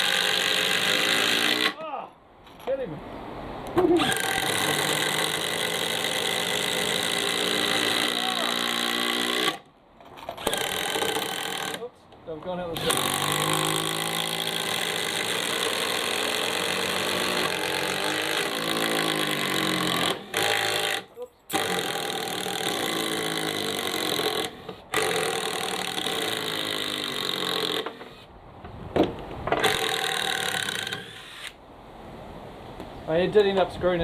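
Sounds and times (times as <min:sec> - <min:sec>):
impact drivers whining and hammering: 0:00.0 - 0:01.8, 0:03.7 - 0:11.9, 0:12.7 - 0:28.3, 0:28.9 - 0:31.6.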